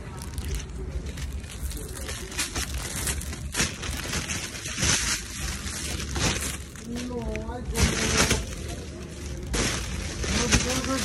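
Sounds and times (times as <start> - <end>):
phone rustling and crinkling: 0.0 - 11.0.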